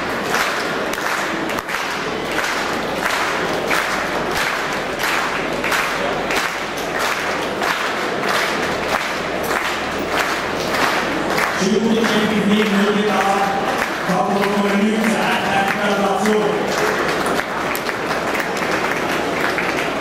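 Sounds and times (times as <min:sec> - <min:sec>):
audience clapping in rhythm: 0:00.0 - 0:20.0.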